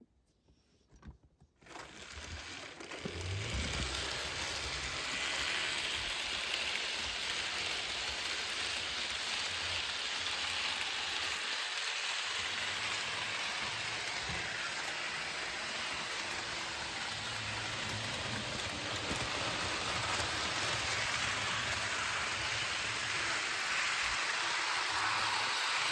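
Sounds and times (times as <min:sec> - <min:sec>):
model train running on track: 0:01.7 - 0:25.9.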